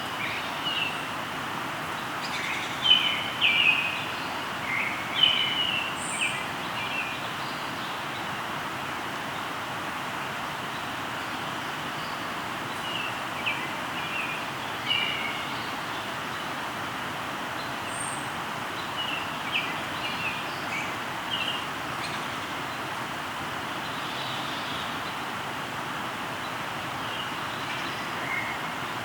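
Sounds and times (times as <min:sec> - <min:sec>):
river flowing: 0:00.0 - 0:29.0.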